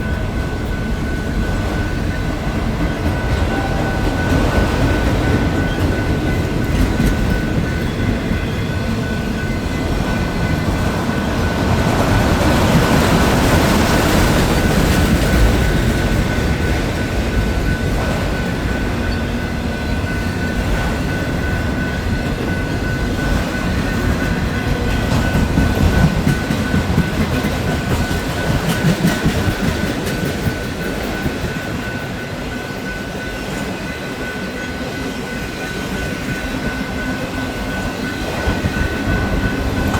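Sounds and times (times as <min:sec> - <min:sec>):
train wheels rumbling on rail: 0:00.0 - 0:39.9
wheels clacking: 0:00.0 - 0:39.9.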